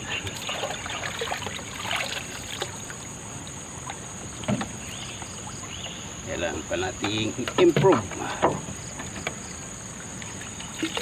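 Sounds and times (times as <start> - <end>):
water trickling and splashing: 0.0 - 6.1, 7.0 - 11.0
insect buzz: 0.0 - 11.0.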